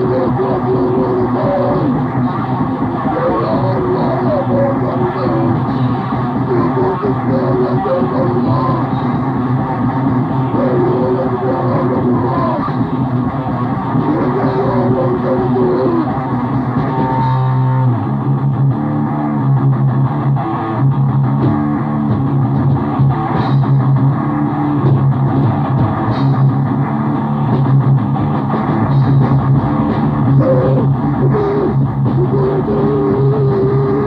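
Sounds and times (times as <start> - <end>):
bass and drums: 0.0 - 34.0
distorted electric guitar riffing: 0.0 - 34.0.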